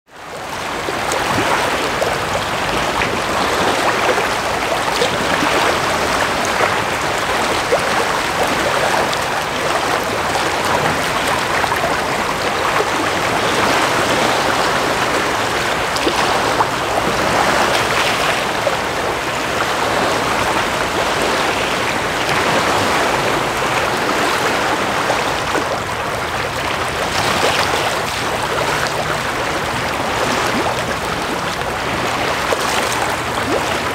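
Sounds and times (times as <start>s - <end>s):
water rushing: 0.1s - 33.9s
small waves lapping: 0.2s - 33.9s.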